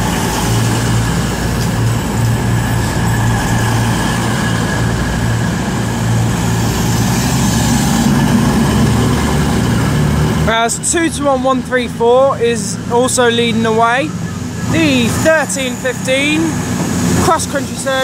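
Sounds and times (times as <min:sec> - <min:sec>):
train diesel engines idling: 0:00.0 - 0:18.0.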